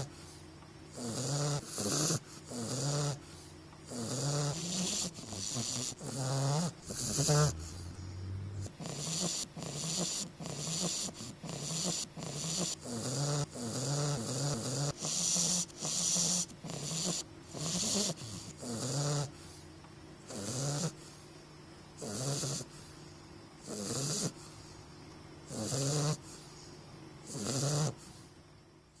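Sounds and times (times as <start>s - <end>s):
puppy snoring: 0.0s - 19.6s, 20.2s - 21.3s, 22.0s - 29.0s.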